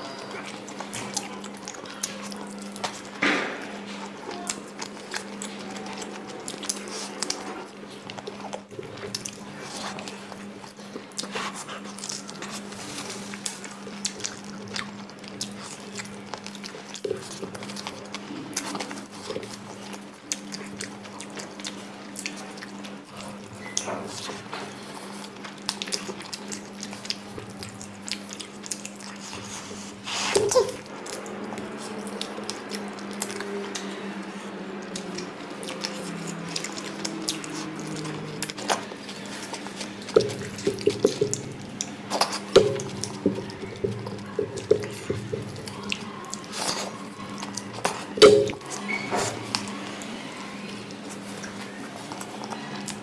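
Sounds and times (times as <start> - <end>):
person chewing and lip-smacking: 0.0 - 53.0.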